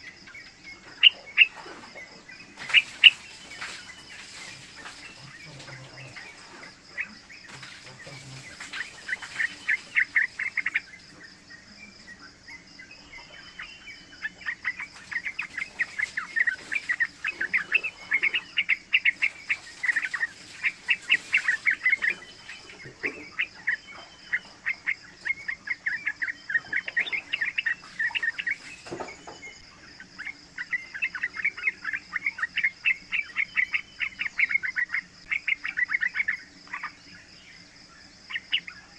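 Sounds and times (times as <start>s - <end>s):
bird singing chattering notes: 0.0s - 38.9s.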